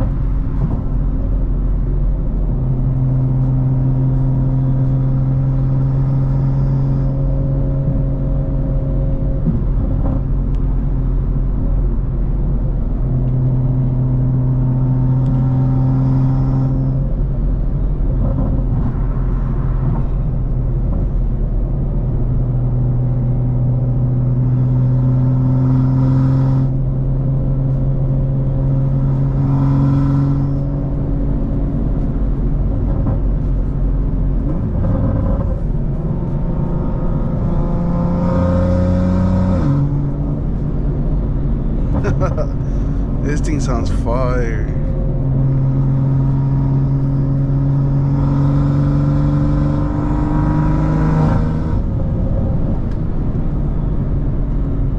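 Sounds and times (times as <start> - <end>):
car engine running: 0.0 - 25.3, 26.6 - 49.1.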